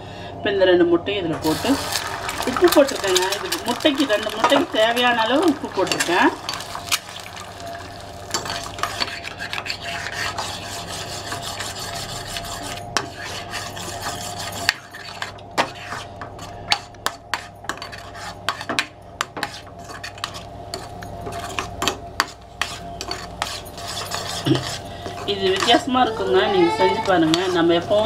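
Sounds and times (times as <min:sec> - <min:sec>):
eggs sizzling: 0:01.4 - 0:28.0
spatula scraping a frying pan: 0:01.6 - 0:28.0.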